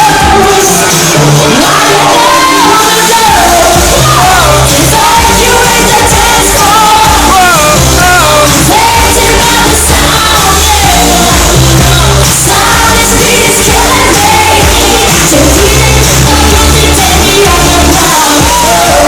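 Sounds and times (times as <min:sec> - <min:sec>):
dance pop song through speakers: 0:00.0 - 0:19.0.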